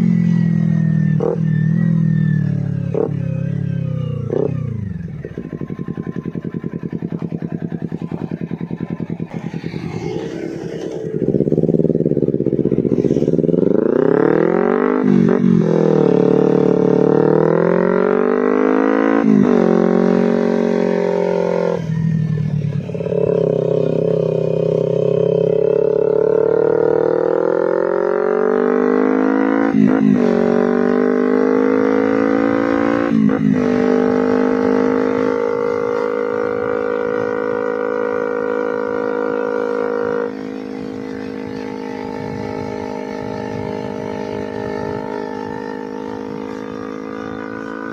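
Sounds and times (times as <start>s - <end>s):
engine upshifts pitch drops: 0.0s - 47.9s
motorcycle engine revving: 0.0s - 47.9s.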